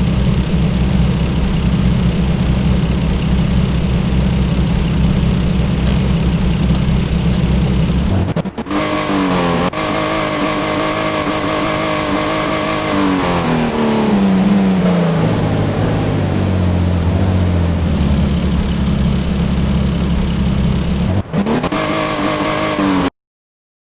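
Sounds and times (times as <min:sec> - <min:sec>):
car engine revving: 0:00.0 - 0:23.1.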